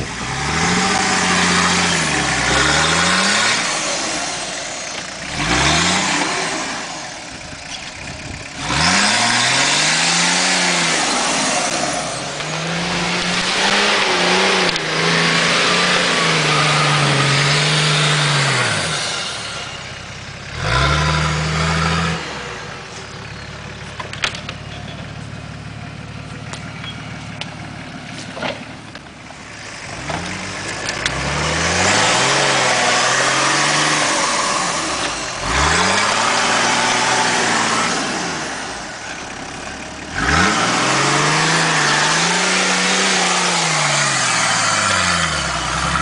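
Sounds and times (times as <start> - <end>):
diesel engine revving: 0.0 - 46.0.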